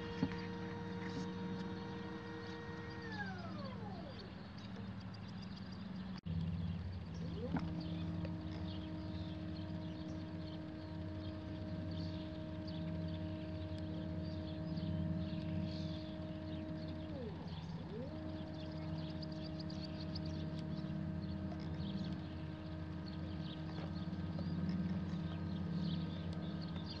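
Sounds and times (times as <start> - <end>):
low hum: 0.0 - 27.0
telescope mount motors whining: 0.0 - 27.0.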